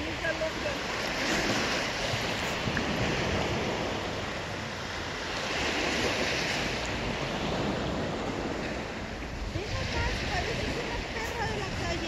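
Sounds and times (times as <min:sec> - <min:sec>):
waves washing over shingle beach: 0:00.0 - 0:12.0.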